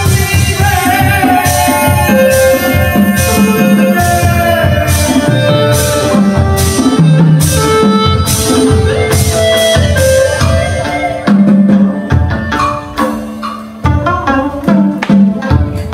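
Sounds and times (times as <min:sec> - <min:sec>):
drum beat: 0:00.0 - 0:15.9
plucked strings: 0:00.0 - 0:15.9.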